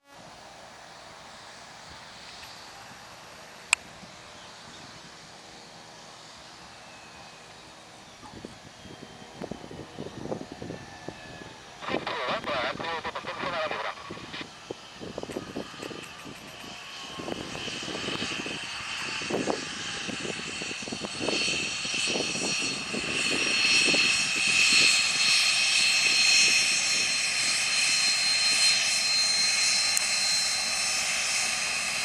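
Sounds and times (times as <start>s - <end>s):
jet engines passing with whine: 0.0s - 32.0s.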